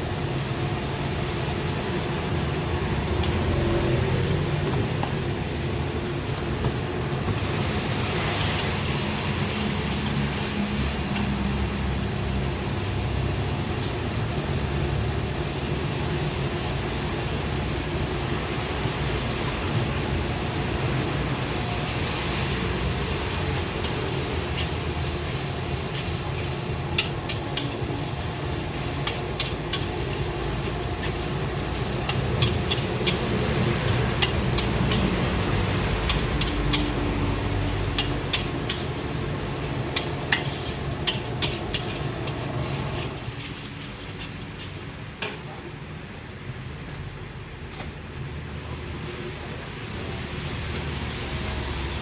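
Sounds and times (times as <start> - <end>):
wok sizzling hiss: 0.0 - 52.0.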